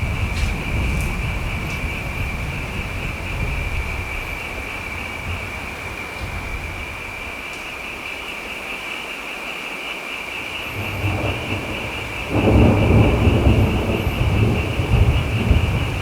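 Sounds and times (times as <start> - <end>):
thunder rumbling: 0.0 - 8.7, 10.4 - 16.0
steady rain: 0.0 - 16.0.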